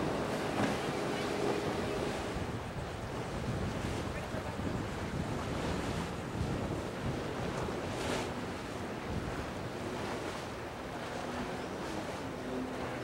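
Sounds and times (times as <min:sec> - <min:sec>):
wind buffeting microphone: 0:00.0 - 0:12.2
boat engines droning: 0:00.0 - 0:13.0
waves and boat wake rushing: 0:00.0 - 0:13.0.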